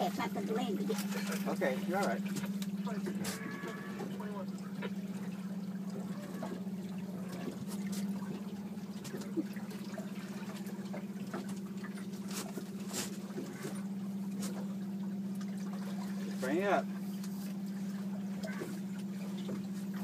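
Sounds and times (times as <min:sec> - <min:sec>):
outboard motor running: 0:00.0 - 0:20.0
water sloshing against hull: 0:00.0 - 0:20.0.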